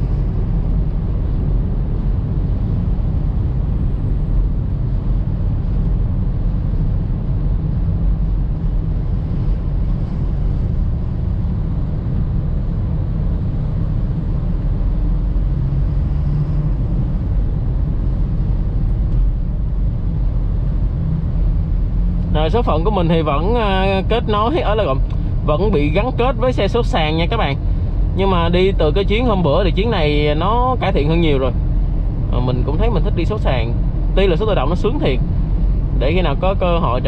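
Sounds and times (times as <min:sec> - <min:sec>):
car cabin road rumble: 0:00.0 - 0:37.0.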